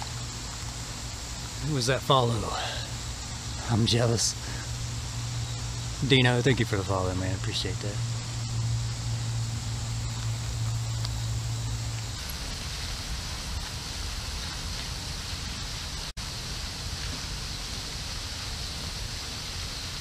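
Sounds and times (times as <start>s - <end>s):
low steady hum: 0.0s - 20.0s
outdoor background hiss: 0.0s - 20.0s.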